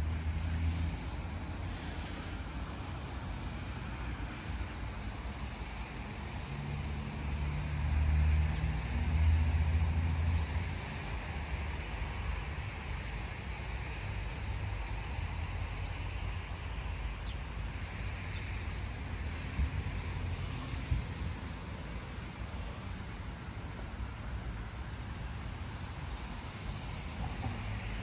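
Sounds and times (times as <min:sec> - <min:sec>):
distant road traffic: 0:00.0 - 0:28.0
passing vehicle rumble: 0:00.0 - 0:28.0.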